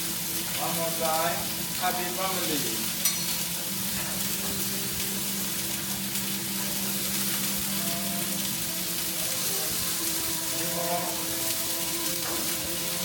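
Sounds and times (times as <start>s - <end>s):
seafood sizzling on a griddle: 0.0s - 13.0s.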